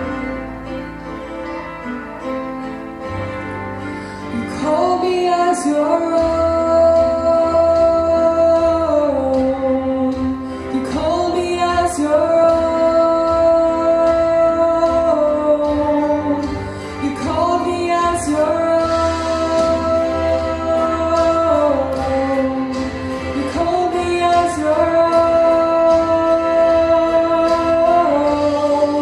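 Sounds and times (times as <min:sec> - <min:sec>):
woman singing long notes: 0:04.3 - 0:29.0.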